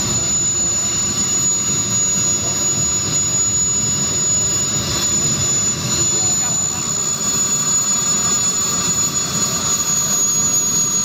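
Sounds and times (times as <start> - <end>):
jet turbine high whine: 0.0 - 11.0.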